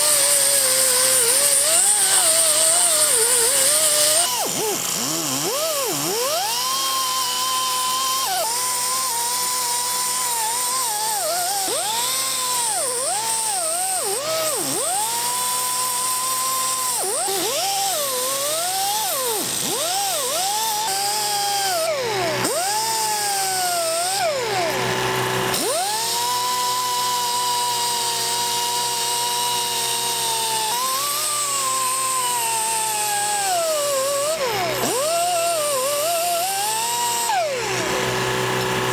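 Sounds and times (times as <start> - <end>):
die grinder whining: 0.0 - 38.9.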